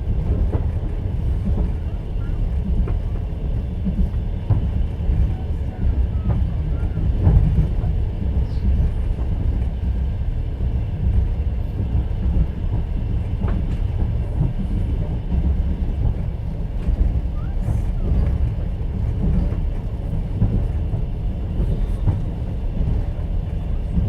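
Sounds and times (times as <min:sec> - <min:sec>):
train rumbling and rattling: 0:00.0 - 0:24.0.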